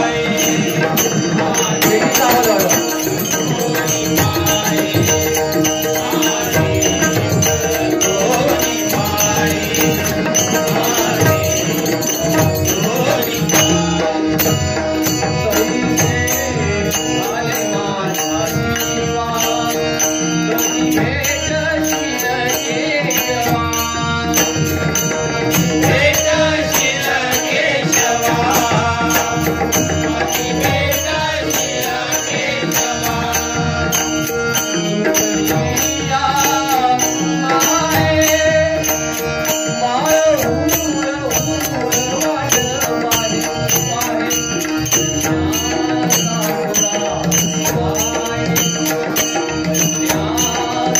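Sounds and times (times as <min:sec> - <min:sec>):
hand drums: 0:00.0 - 0:50.9
man singing: 0:00.0 - 0:50.9.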